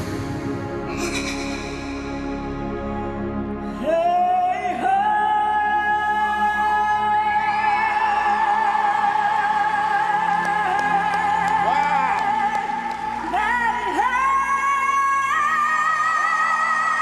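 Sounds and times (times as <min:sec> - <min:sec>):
backing music: 0:00.0 - 0:17.0.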